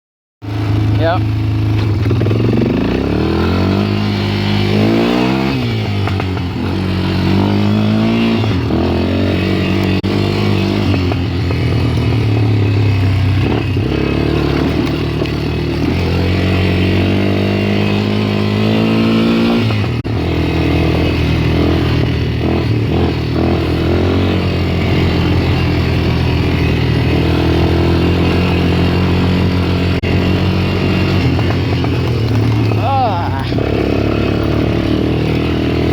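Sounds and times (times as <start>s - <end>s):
atv engine revving: 0.4s - 35.9s.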